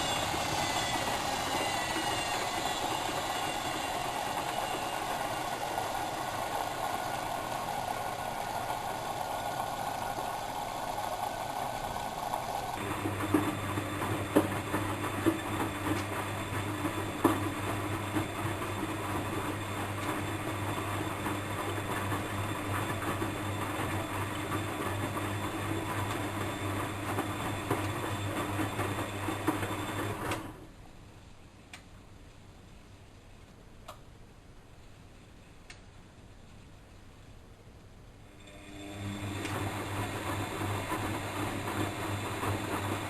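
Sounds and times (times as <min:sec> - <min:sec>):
washing machine running: 0:00.0 - 0:30.7, 0:38.2 - 0:43.0.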